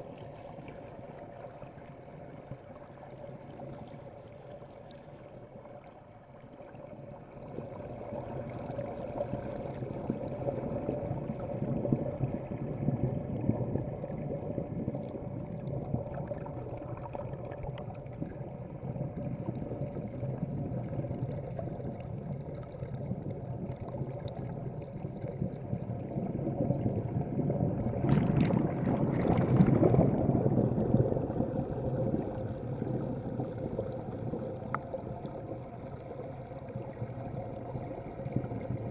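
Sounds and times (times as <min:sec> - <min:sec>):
underwater bubbling water: 0:00.0 - 0:38.9.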